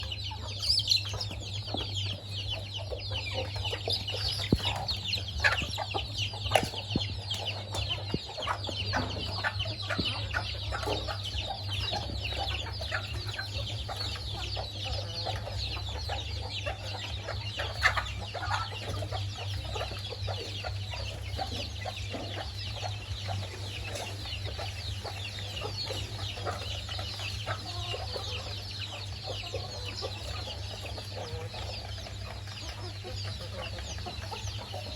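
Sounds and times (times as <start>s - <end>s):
chickens clucking: 0.0s - 34.9s
chicks peeping and chirping: 0.0s - 34.9s.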